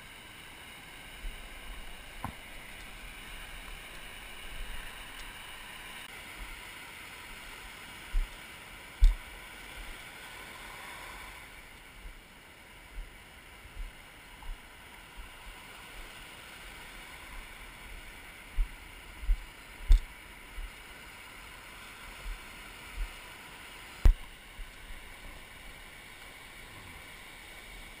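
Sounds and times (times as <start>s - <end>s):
surf washing and hissing: 0.0s - 28.0s.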